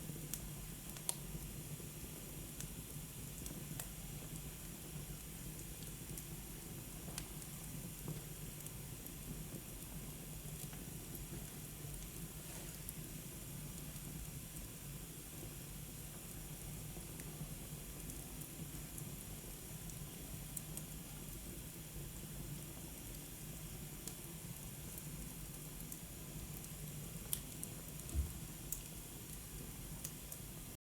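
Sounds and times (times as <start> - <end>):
fire crackling: 0.0 - 30.6.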